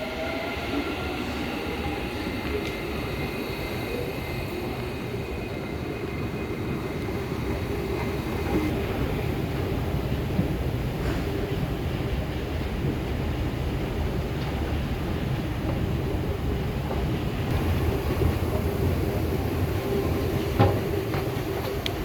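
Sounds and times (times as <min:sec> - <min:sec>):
metro train rumble and hiss: 0:00.0 - 0:22.0.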